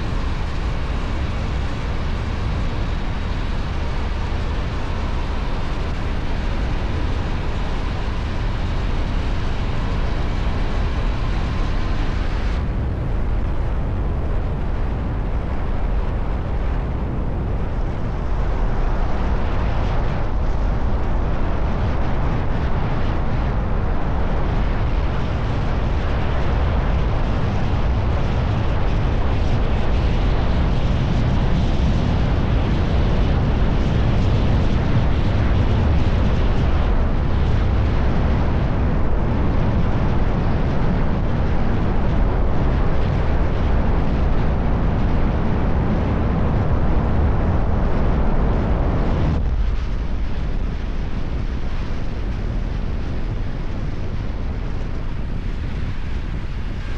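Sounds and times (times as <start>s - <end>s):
wind rumble on microphone: 0.0s - 56.9s.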